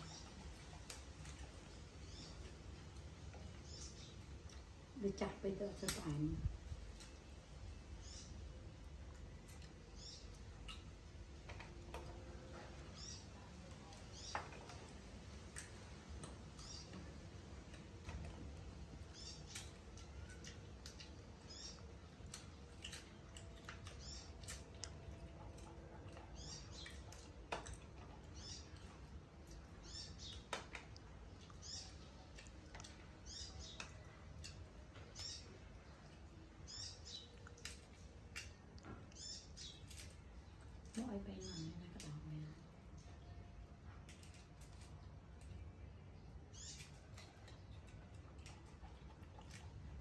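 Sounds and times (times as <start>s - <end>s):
lotus seeds clicking and snapping: 0.0s - 50.0s.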